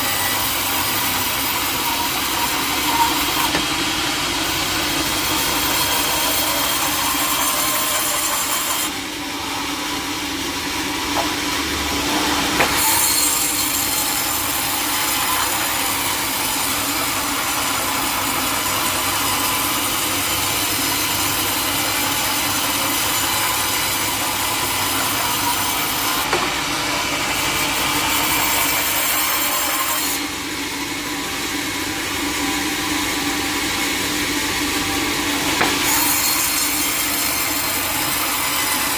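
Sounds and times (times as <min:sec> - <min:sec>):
sawmill hum: 0:00.0 - 0:38.9.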